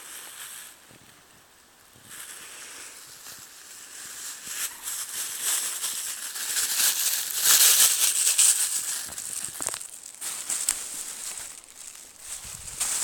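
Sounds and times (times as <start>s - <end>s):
close rustling and crackling: 2.0s - 13.0s.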